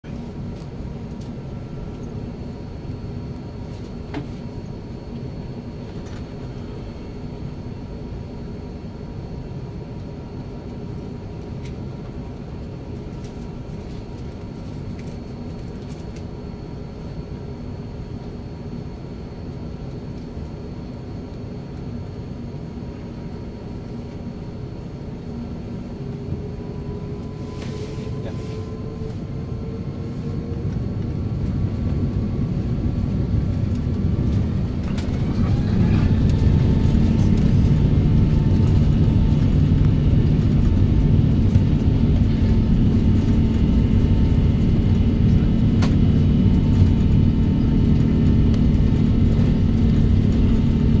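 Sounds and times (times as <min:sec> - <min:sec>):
aircraft cabin drone: 0:00.0 - 0:51.0
jet engines whining: 0:00.1 - 0:51.0.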